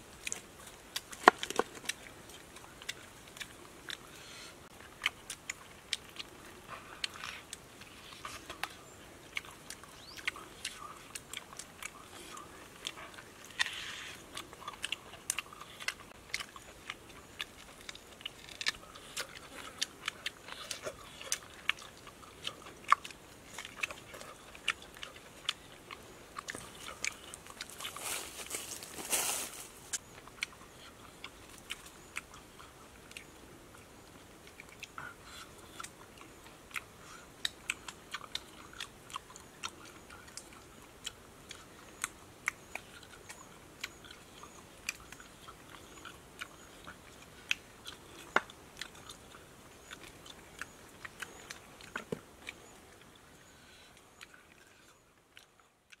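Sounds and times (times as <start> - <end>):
people chewing crunchy meat: 0.0 - 56.0.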